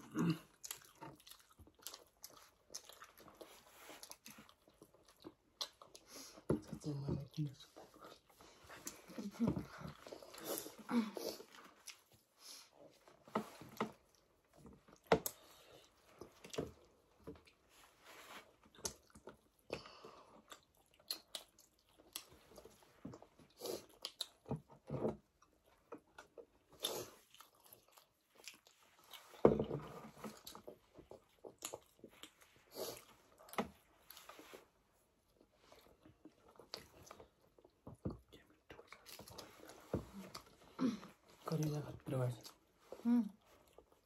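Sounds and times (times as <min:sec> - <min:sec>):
people chewing: 0:00.0 - 0:44.0.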